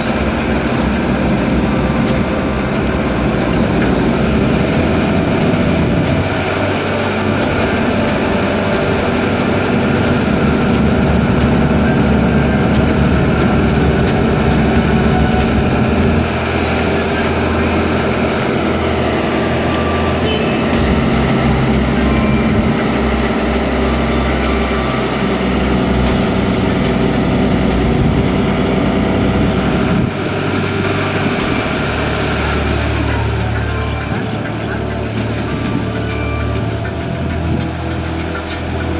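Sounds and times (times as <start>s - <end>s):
crane diesel engine running: 0.0s - 38.9s.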